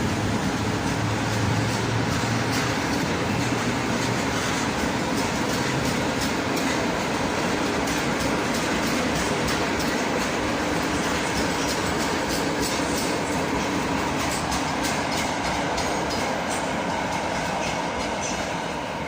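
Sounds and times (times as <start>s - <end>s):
wheels clicking over rail joints: 0.0s - 18.8s
train rumbling past: 0.0s - 19.0s.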